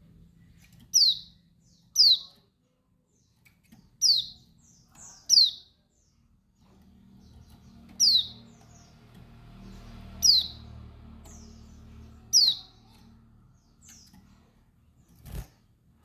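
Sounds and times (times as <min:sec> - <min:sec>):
bird chirping calls: 0:00.4 - 0:15.4.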